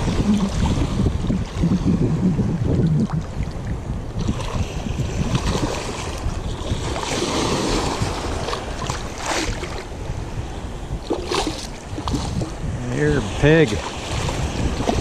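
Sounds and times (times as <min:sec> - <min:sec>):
water sloshing and lapping: 0:00.0 - 0:15.0
wind buffeting microphone: 0:00.0 - 0:15.0.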